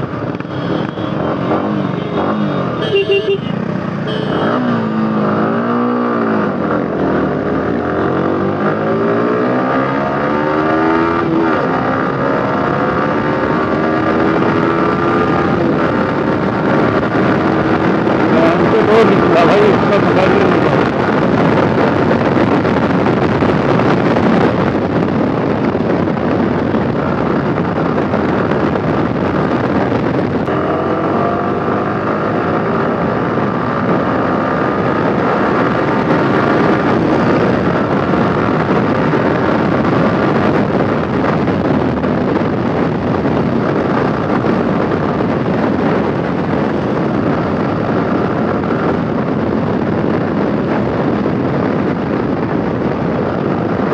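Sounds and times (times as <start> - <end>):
motorcycle engine at speed: 0.0 - 53.9
wind rush on microphone: 0.0 - 53.9.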